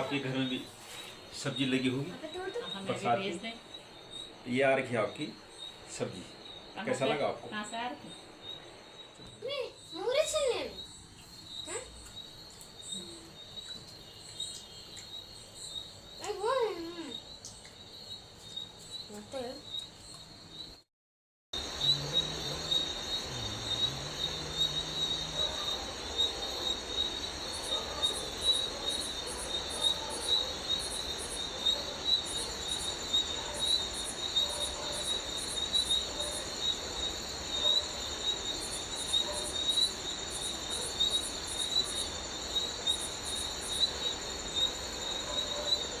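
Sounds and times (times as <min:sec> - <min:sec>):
higher insect chirping: 0:00.0 - 0:20.9, 0:21.6 - 0:46.0
insects shrill pulsing trill: 0:00.0 - 0:20.9, 0:21.6 - 0:46.0.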